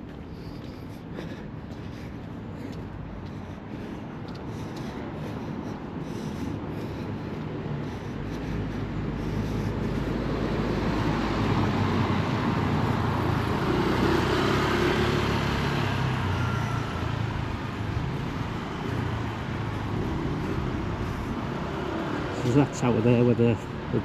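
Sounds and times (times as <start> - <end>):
vehicle engine hum passing: 0.0 - 24.0.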